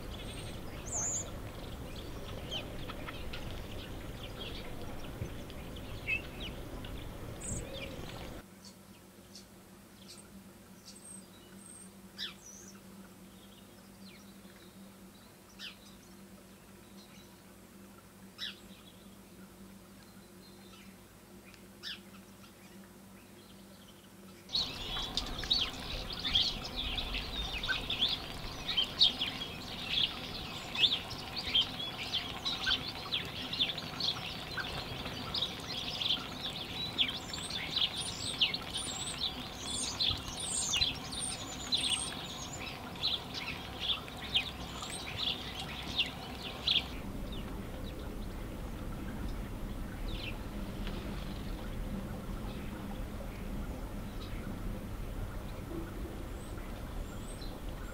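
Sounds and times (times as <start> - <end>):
low steady background hum: 0.0 - 57.9
songbirds chirping and twittering: 0.0 - 57.9.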